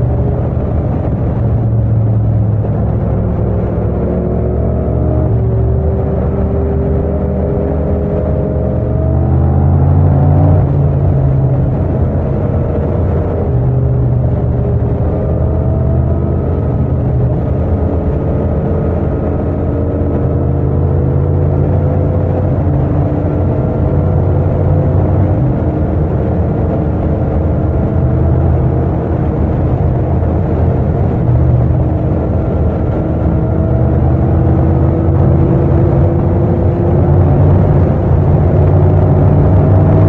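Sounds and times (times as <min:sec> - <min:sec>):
motorcycle engine at speed: 0:00.0 - 0:40.0.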